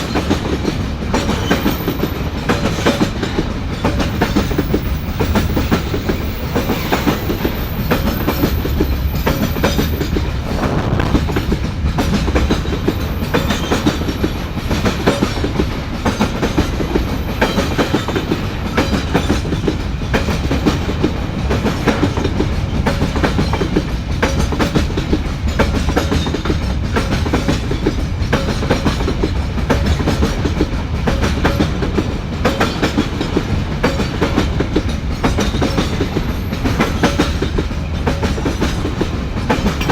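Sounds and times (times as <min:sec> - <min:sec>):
train low rumble: 0:00.0 - 0:39.9
train wheels clickety-clack: 0:00.0 - 0:39.9.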